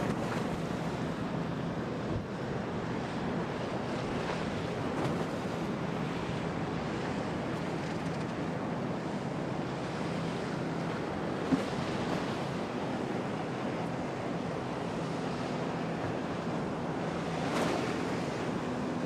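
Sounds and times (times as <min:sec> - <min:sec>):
rushing wind and surf: 0:00.0 - 0:19.0.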